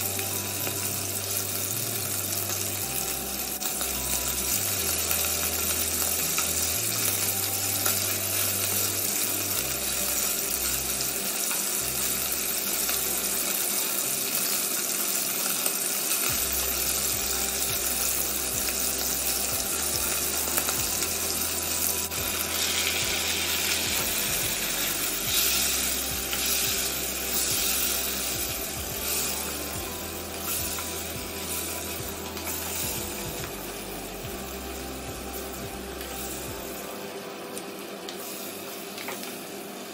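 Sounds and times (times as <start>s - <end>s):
beef sizzling in hot pan: 0.0s - 39.9s.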